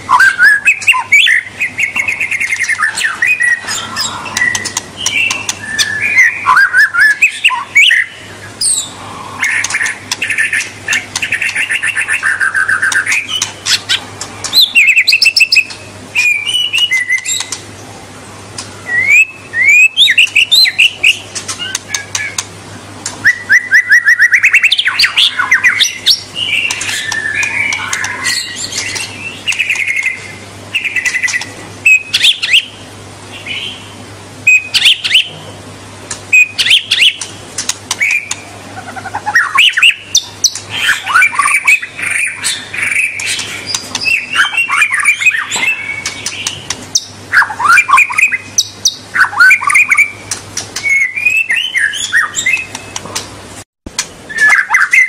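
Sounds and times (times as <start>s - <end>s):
bird singing whistled phrases: 0.1s - 13.8s, 14.5s - 17.6s, 18.8s - 22.4s, 23.2s - 32.8s, 34.5s - 35.3s, 36.3s - 37.2s, 38.0s - 53.0s, 54.3s - 55.0s.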